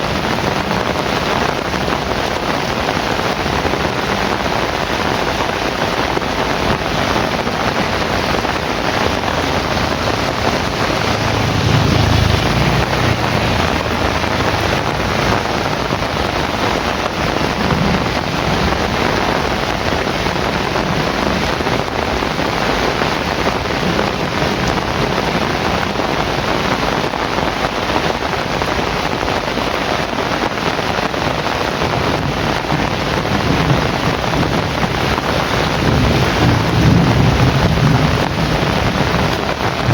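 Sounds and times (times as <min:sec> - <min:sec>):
low rumbles: 0:00.0 - 0:27.0, 0:31.7 - 0:39.9
heavy rain: 0:00.0 - 0:39.9.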